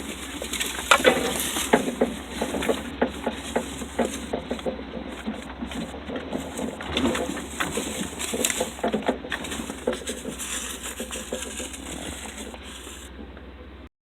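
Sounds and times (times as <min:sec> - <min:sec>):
knocks and crackles: 0:00.0 - 0:13.4
vehicle engine at low revs: 0:00.0 - 0:13.9.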